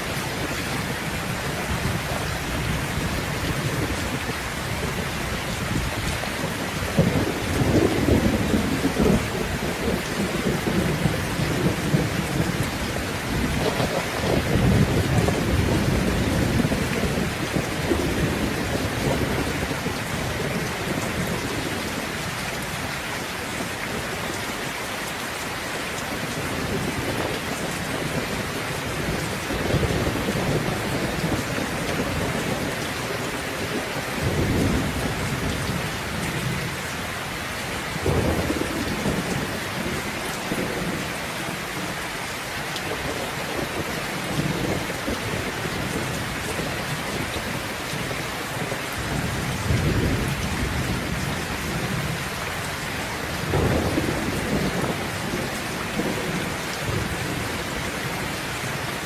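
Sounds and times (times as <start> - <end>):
thunder rumbling: 0.0 - 22.3, 26.0 - 37.1, 37.9 - 42.0, 42.9 - 59.0
heavy rain hissing: 0.0 - 59.0.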